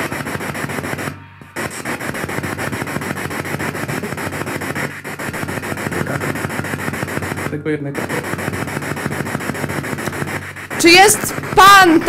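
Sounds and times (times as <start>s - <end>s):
pulsing radio static hiss: 0.0s - 12.0s.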